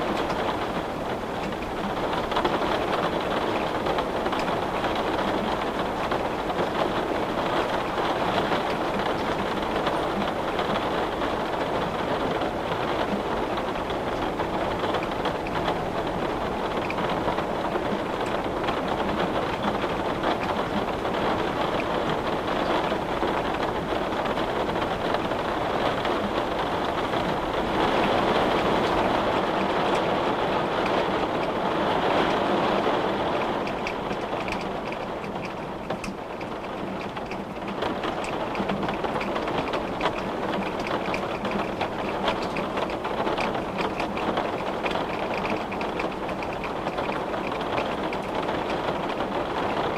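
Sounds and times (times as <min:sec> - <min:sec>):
rain falling on a window: 0:00.0 - 0:49.9
raindrops ticking: 0:00.0 - 0:49.9.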